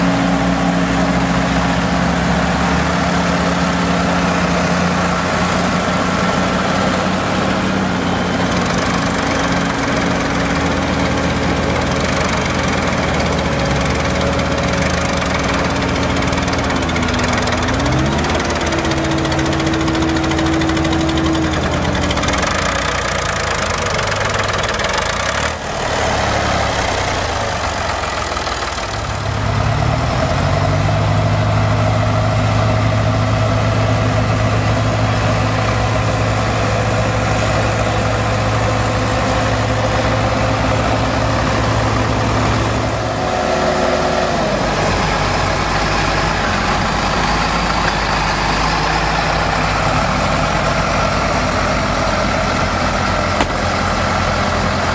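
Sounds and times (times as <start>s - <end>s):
tractor engines under load: 0.0s - 54.9s
wheels churning through mud: 0.0s - 54.9s.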